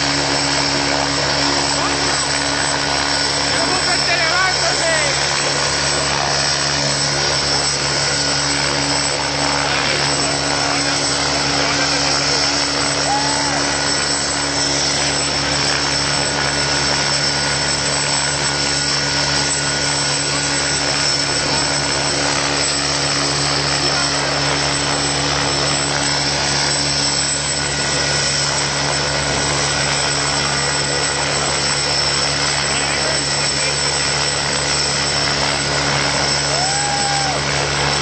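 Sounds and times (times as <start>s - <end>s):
helicopter drone: 0.0s - 38.0s.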